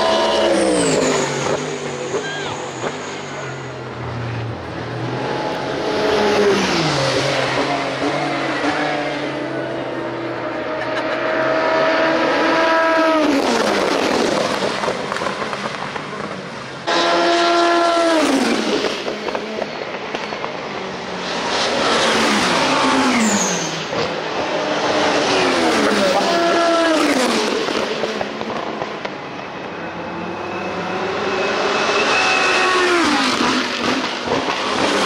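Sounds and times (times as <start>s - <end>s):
race cars passing at speed: 0.0s - 35.0s.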